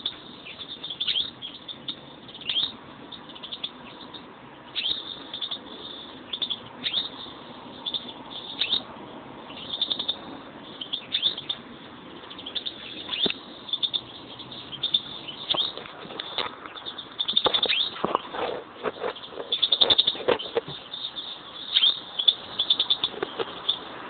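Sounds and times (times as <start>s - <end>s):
finches chirping and twittering: 0.0s - 24.0s.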